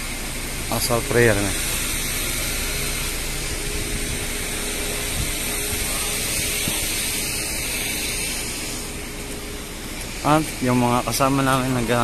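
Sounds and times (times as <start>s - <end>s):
faint constant hum: 0.0s - 12.0s
street and vehicle hiss: 0.0s - 12.0s.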